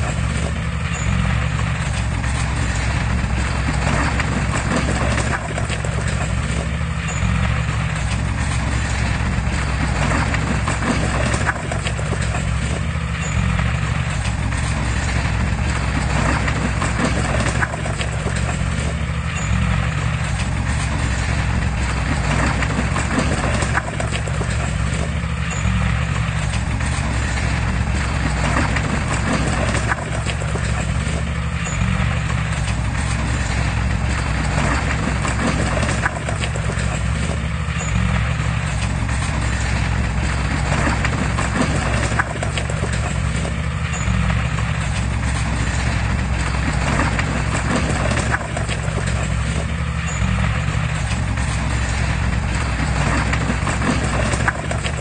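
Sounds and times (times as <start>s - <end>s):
heavy diesel machinery running: 0.0s - 55.0s
metallic clanking of crawler tracks: 0.0s - 55.0s.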